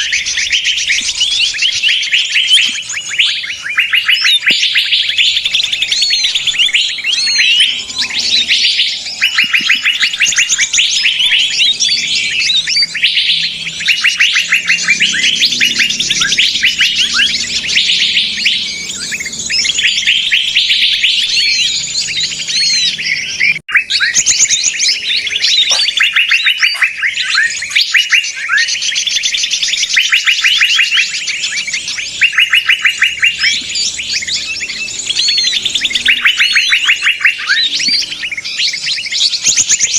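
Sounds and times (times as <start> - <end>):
small birds trilling and chirping: 0.0 - 39.9.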